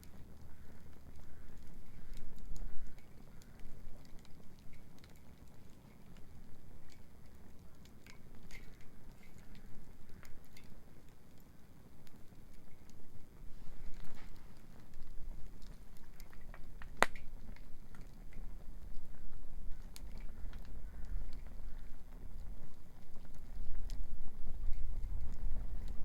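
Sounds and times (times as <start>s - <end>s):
bonfire crackling and popping: 0.0s - 26.0s.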